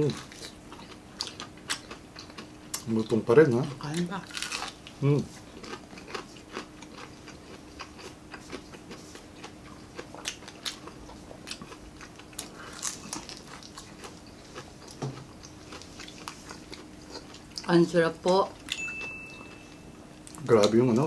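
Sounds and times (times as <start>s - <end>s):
crunching while chewing: 0.0s - 17.7s
faint steady hum: 0.0s - 21.0s.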